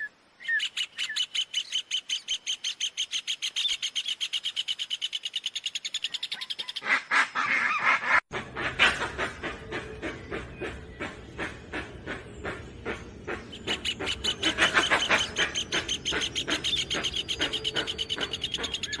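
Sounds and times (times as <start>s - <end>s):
chorus of rapid high bird calls: 0.0s - 8.2s, 8.8s - 19.0s
birds calling harshly: 0.0s - 19.0s.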